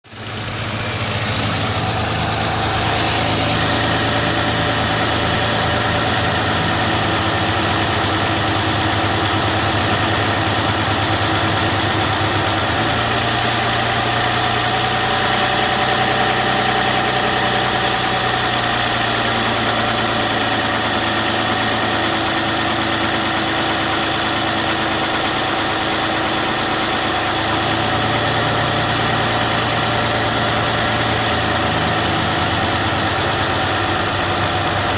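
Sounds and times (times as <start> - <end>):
car engine idling: 0.0 - 34.9
engine ticking: 0.0 - 34.9.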